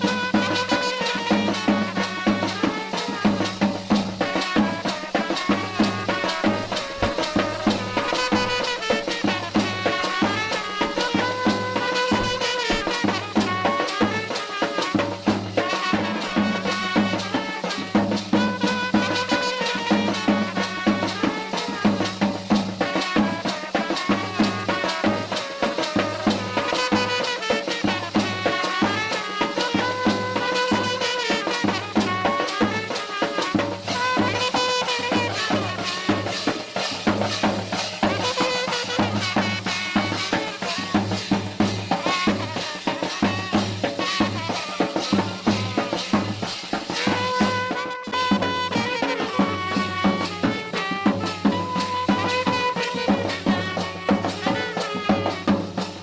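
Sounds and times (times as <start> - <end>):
fast drumming: 0.0 - 56.0
rattling percussion: 0.0 - 56.0.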